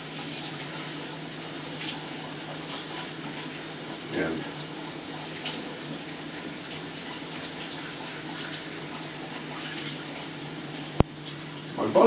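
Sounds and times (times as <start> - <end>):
hands washing: 0.0 - 11.8.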